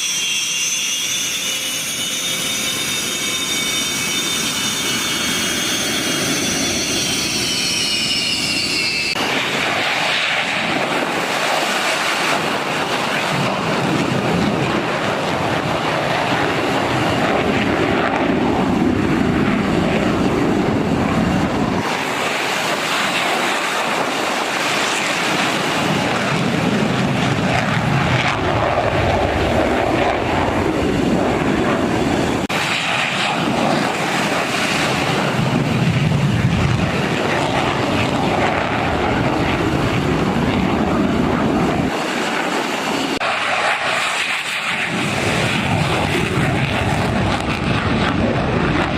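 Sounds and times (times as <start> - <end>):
aircraft engine roar: 0.0 - 48.9.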